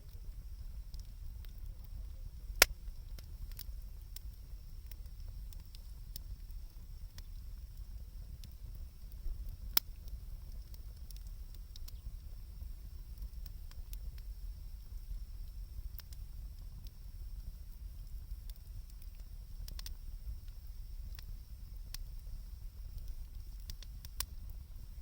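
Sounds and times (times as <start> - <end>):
bonfire crackling: 0.0 - 25.0.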